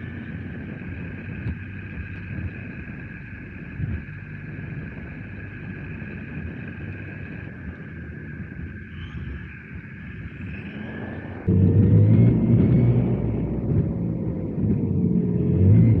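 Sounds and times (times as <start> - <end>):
rc car tyres and drivetrain rumble: 0.0 - 16.0.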